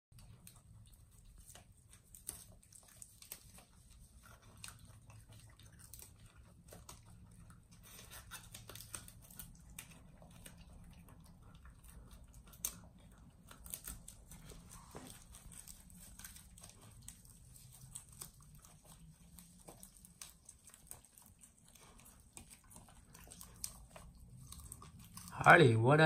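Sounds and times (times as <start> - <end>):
animals chewing greens: 0.1 - 26.0.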